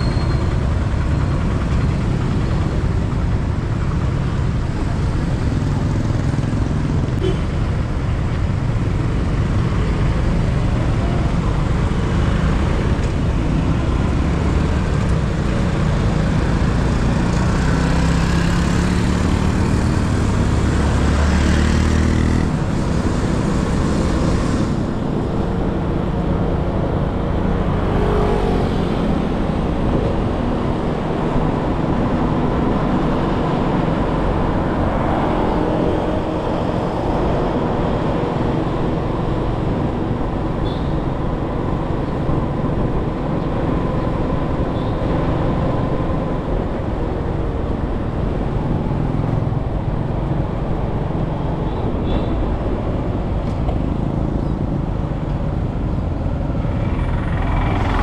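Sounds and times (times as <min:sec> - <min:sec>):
vehicle road and engine noise: 0:00.0 - 0:58.0.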